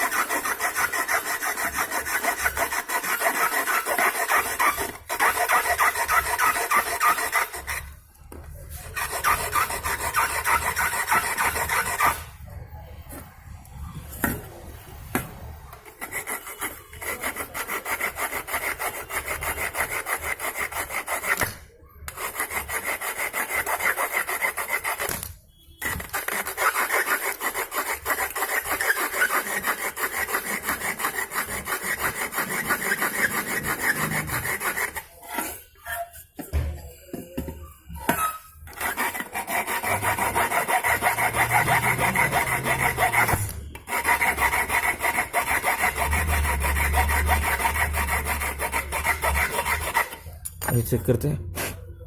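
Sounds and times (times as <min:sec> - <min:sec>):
hand file rasping on metal: 0:00.0 - 0:08.0, 0:08.7 - 0:12.3, 0:15.8 - 0:21.5, 0:22.1 - 0:25.2, 0:25.8 - 0:36.2, 0:38.0 - 0:50.3.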